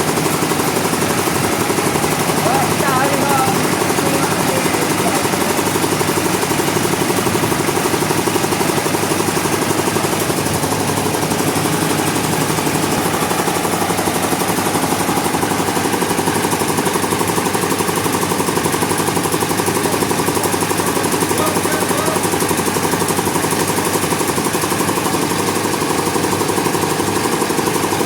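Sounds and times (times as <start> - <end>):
sawmill engine droning: 0.0 - 28.0.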